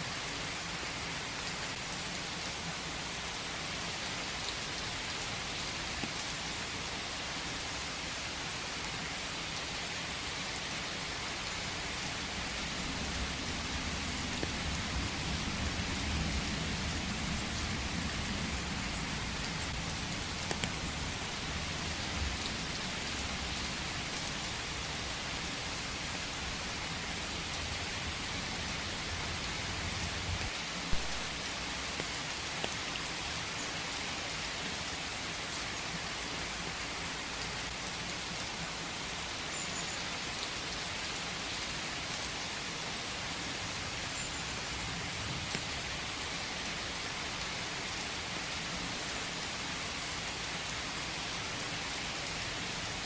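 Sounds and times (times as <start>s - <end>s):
rain falling in a forest: 0.0s - 53.0s.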